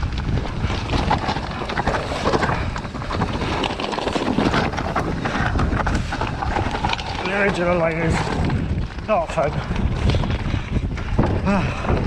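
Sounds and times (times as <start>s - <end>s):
bike knocks and rattles: 0.0s - 12.0s
tyres rumbling over loose stones: 0.0s - 12.0s
wind buffeting microphone: 0.0s - 12.0s.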